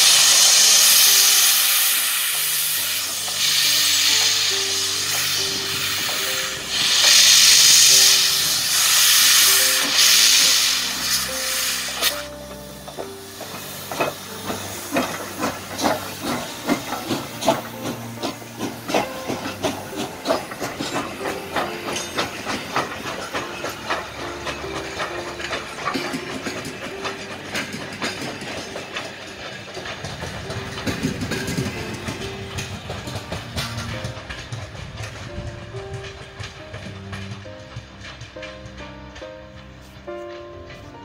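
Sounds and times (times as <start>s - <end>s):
steam hissing from cylinders: 0.0s - 40.9s
steam locomotive exhaust chuffs: 0.0s - 41.0s.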